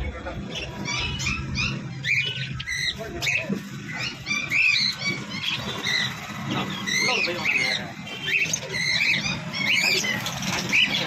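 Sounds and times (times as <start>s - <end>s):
lovebirds chirping and chattering: 0.0s - 11.0s.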